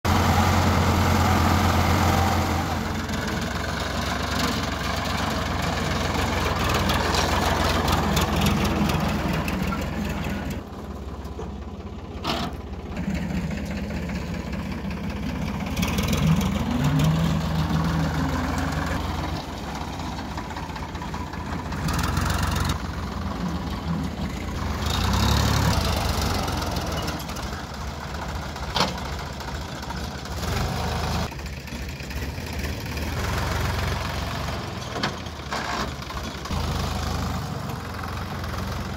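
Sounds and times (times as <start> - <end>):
diesel tractor engines idling: 0.0 - 38.9.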